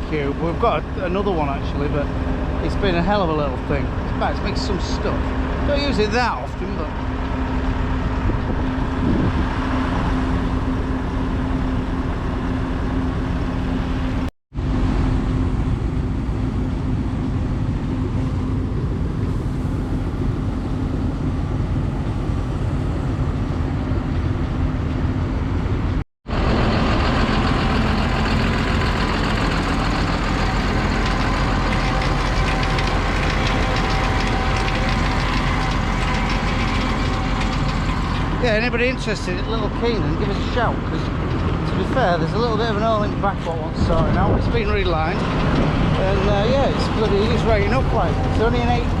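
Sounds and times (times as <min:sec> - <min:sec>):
feed mixer mechanical drone: 0:00.0 - 0:21.8, 0:26.3 - 0:49.0.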